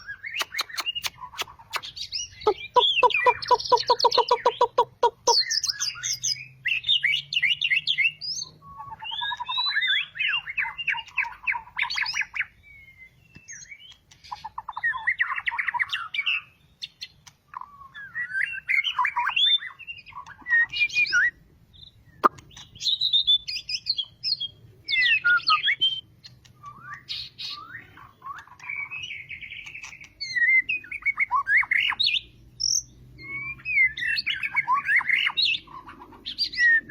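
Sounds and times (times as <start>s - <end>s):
bird singing whistles and trills: 0.0s - 36.9s.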